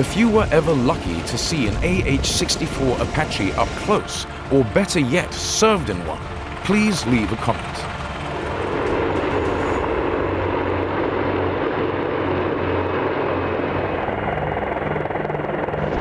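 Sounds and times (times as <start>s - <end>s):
helicopters flying past: 0.0s - 16.0s.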